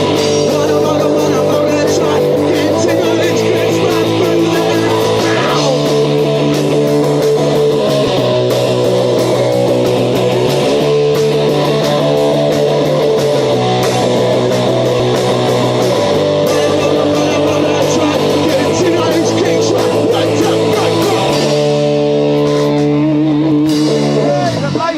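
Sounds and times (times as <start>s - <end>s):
bass line: 0.0s - 24.9s
drum beat: 0.0s - 24.9s
guitars: 0.0s - 24.9s.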